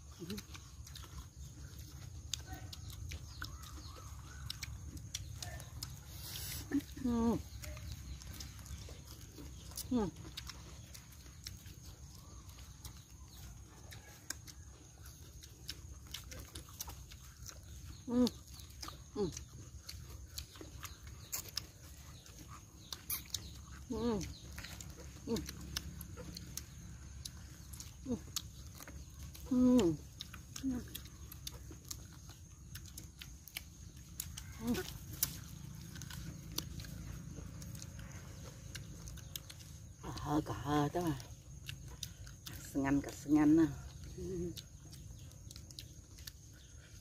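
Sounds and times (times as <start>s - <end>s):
chewing and lip-smacking: 0.0s - 47.0s
steady low hum: 0.0s - 47.0s.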